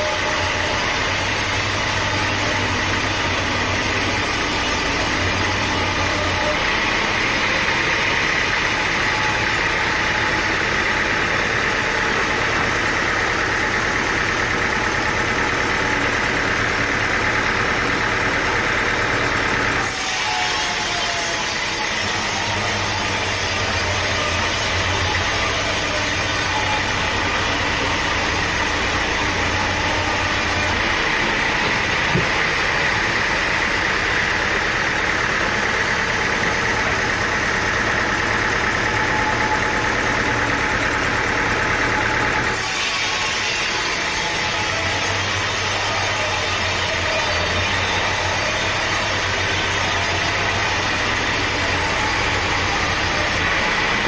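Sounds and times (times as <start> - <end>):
engine running: 0.0 - 54.0
loud machine noise: 0.0 - 54.0.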